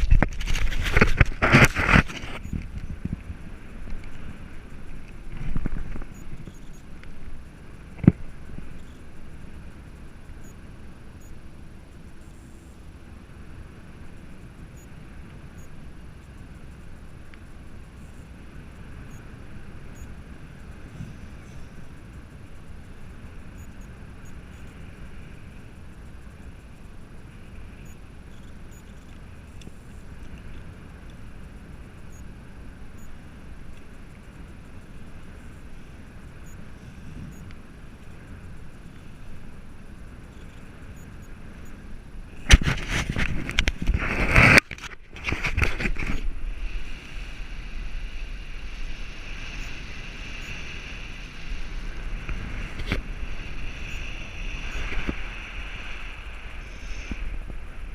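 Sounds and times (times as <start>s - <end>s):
wind blowing over microphone: 0.0s - 11.8s, 13.2s - 57.9s
rustling and buffeting on microphone: 0.0s - 57.9s.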